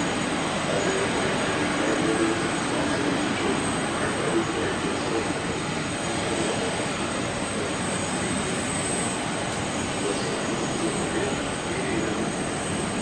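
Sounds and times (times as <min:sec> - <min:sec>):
distant jet engines: 0:00.0 - 0:13.0.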